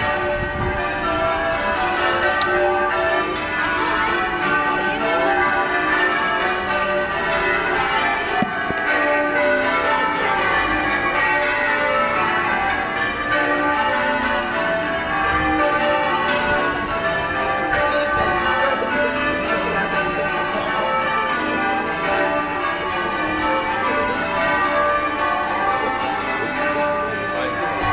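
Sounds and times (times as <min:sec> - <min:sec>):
church bells pealing: 0:00.0 - 0:27.9.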